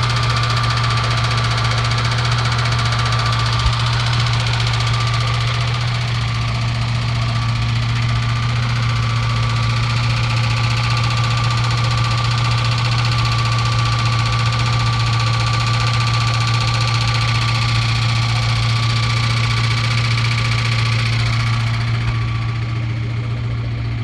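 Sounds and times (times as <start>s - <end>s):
car engine droning: 0.0s - 24.0s
steady engine whine: 0.0s - 24.0s.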